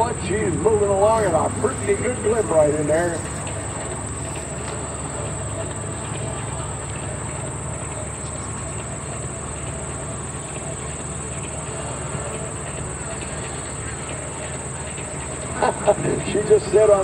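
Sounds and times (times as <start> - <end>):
distant propeller aircraft drone: 0.0 - 17.0.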